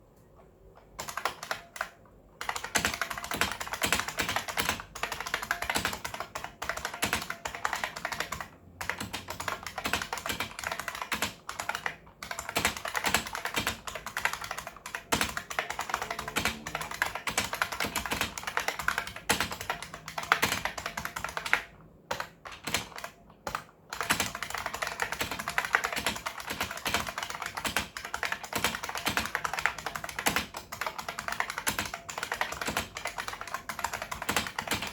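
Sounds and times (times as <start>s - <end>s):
keyboard typing with key clicks: 0.2s - 34.9s.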